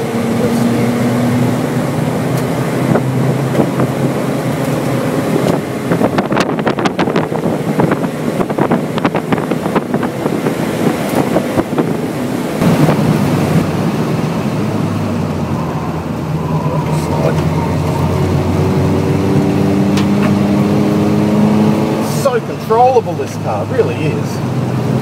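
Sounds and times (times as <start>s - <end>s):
car engine running hard: 0.0s - 25.0s
road and wind noise: 0.0s - 25.0s.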